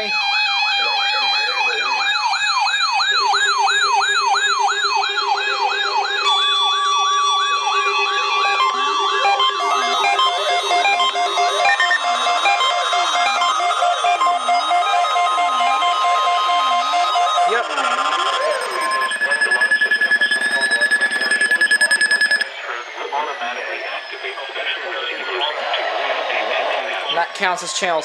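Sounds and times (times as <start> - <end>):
fast warbling siren: 0.0 - 28.0
slow rising and falling siren: 0.0 - 28.0
steady alarm tones: 0.0 - 28.0.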